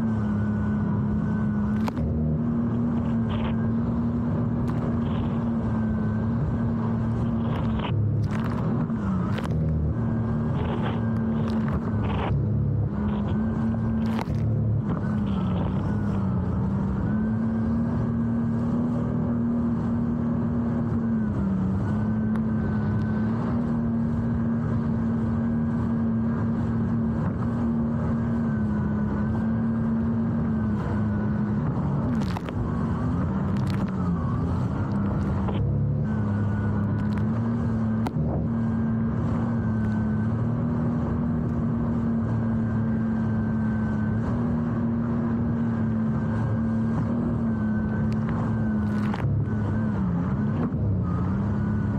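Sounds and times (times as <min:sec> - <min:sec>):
jet ski engine running: 0:00.0 - 0:51.9.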